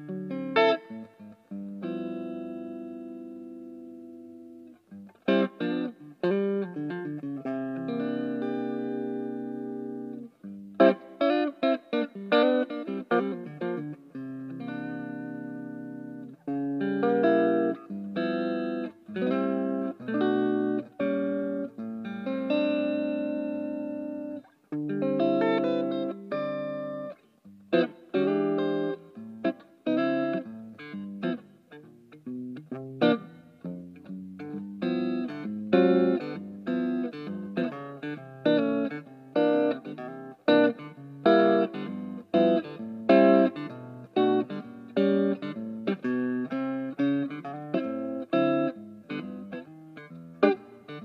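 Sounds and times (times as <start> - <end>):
electric guitar chords strummed: 0.0 - 51.0.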